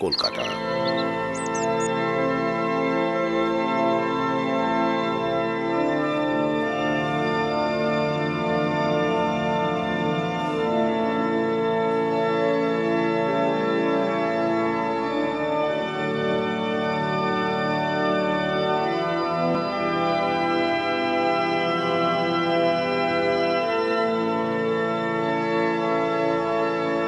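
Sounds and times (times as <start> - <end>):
organ playing slow chords: 0.0 - 27.0.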